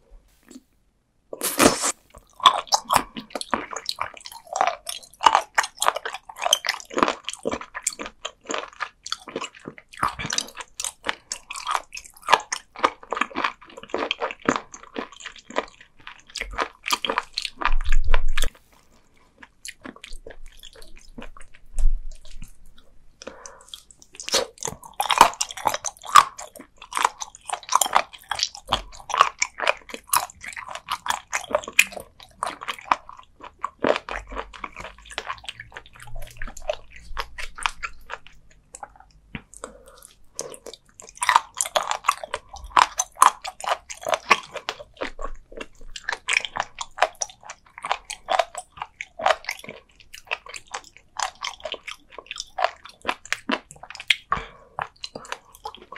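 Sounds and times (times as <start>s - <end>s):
crisp wet chewing crunches: 1.4s - 18.6s, 19.2s - 55.9s.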